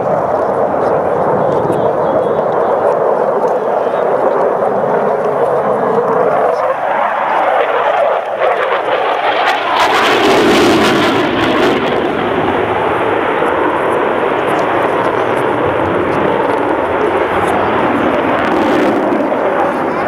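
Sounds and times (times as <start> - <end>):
jet aircraft roar: 0.0 - 20.0.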